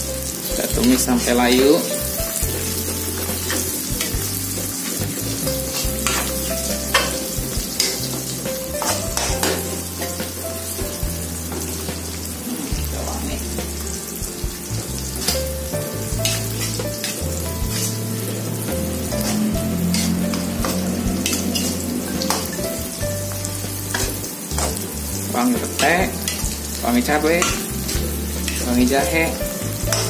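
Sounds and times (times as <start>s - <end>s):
metal spatula scraping a wok: 0.0s - 13.9s, 14.6s - 30.0s
food sizzling in hot oil: 0.0s - 30.0s.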